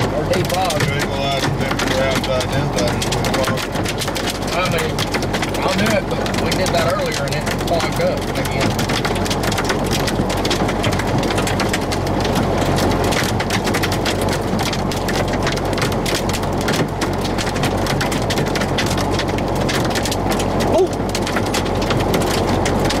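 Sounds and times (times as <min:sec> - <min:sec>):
heavy rain on vehicle roof: 0:00.0 - 0:23.0.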